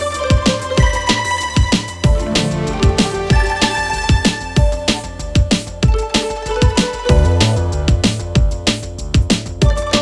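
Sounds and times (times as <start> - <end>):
bass drum beat: 0.6 - 10.0.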